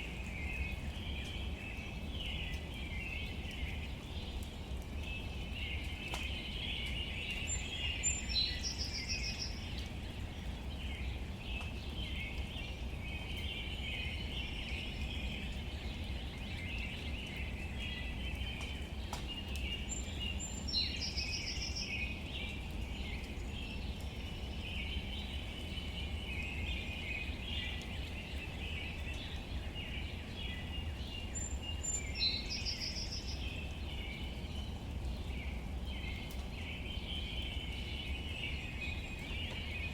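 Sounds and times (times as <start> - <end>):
birds chirping chorus: 0.0 - 39.9
low background hiss: 0.0 - 39.9.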